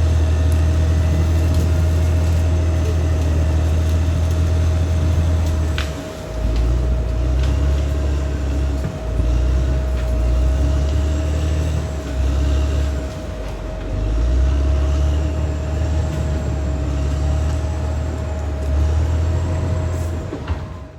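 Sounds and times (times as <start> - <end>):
bulldozer diesel engine rumbling: 0.0 - 20.9.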